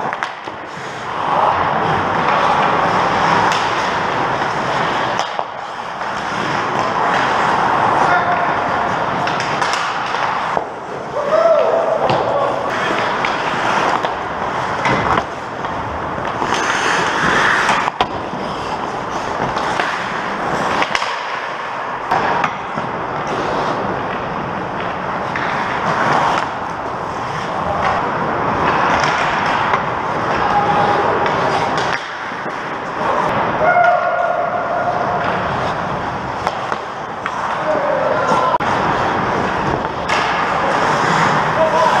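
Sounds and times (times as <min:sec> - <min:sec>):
hockey sticks and puck knocking: 0:00.0 - 0:42.0
skates scraping on ice: 0:00.0 - 0:42.0.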